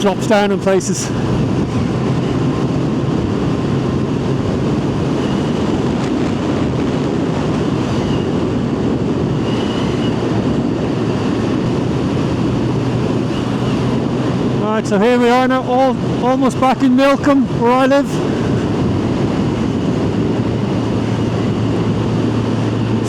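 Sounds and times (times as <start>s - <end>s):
motorcycle engine cruising: 0.0s - 23.0s
wind noise on microphone: 0.0s - 23.0s.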